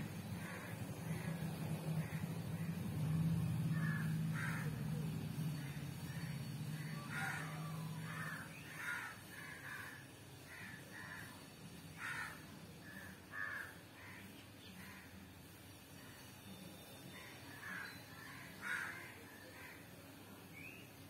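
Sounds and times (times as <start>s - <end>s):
crows cawing: 0.3s - 5.0s, 5.6s - 15.2s, 17.2s - 19.9s.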